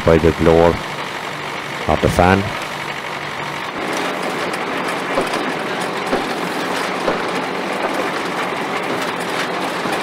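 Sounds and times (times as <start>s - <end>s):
threshing machine clattering: 0.0s - 10.0s.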